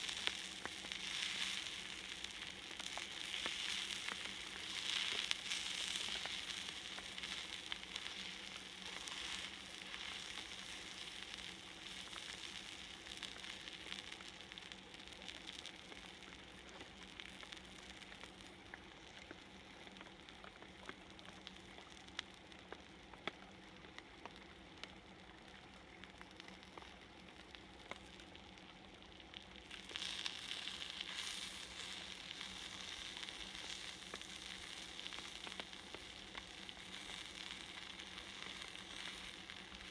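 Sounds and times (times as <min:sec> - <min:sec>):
fish sizzling on a griddle: 0:00.0 - 0:39.9.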